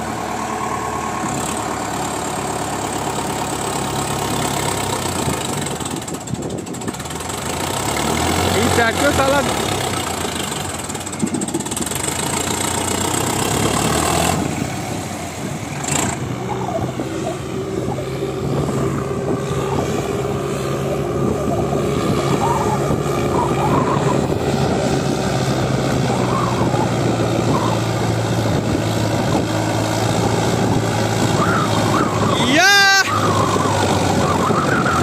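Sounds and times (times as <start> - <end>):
backhoe loader engine running: 0.0 - 35.0
tractor diesel engine running: 0.0 - 35.0.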